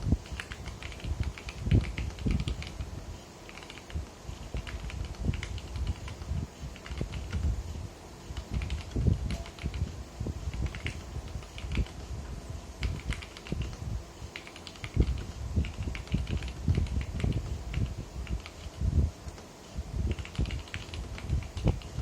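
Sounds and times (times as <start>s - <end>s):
typing on mechanical keyboard: 0.2s - 2.9s, 3.5s - 7.4s, 8.4s - 9.9s, 10.5s - 12.0s, 12.8s - 19.4s, 20.1s - 22.0s.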